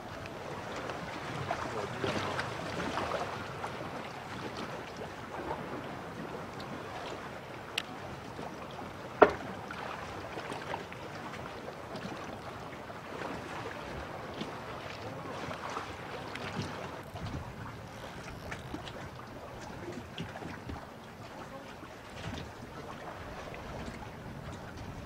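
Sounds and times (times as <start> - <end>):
water lapping against platform: 0.0 - 25.0
wind: 0.0 - 25.0.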